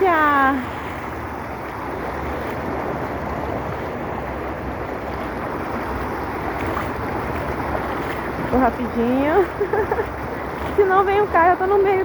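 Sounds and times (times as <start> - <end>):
river water rushing over concrete: 0.0 - 12.0.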